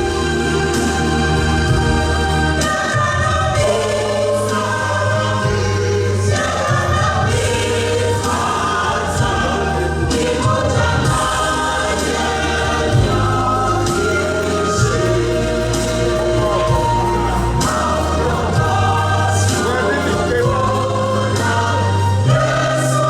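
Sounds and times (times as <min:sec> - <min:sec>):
choir singing gospel: 0:00.0 - 0:23.0
steady bass accompaniment: 0:00.0 - 0:23.0.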